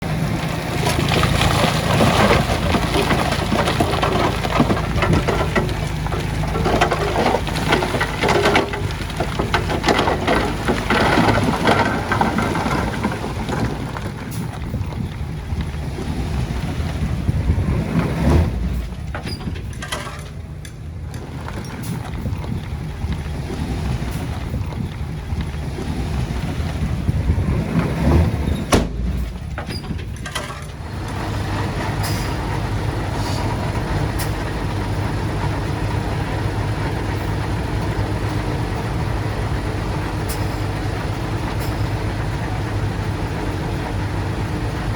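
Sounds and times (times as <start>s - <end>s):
heavy diesel engine under load: 0.0s - 44.9s
stone and dirt clattering: 0.2s - 17.1s, 17.9s - 26.9s, 27.6s - 44.9s.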